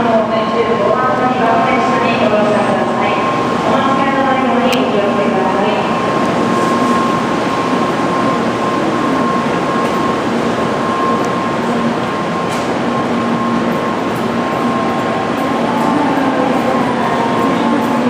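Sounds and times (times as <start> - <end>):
train equipment hum and hiss: 0.0 - 18.0.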